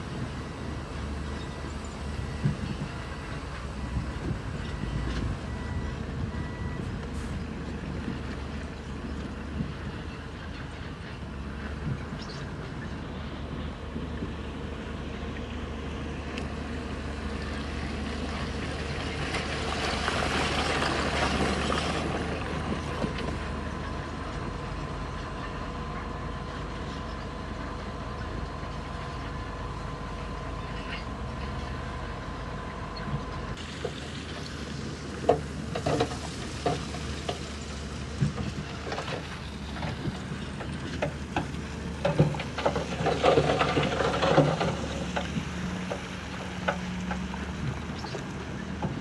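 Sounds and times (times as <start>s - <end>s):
bulldozer diesel engine droning: 0.0s - 49.0s.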